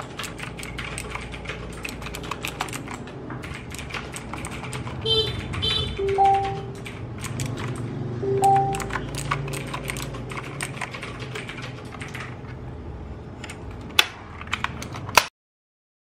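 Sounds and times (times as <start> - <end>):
mechanical keyboard keys clacking: 0.0 - 12.7, 13.4 - 15.3.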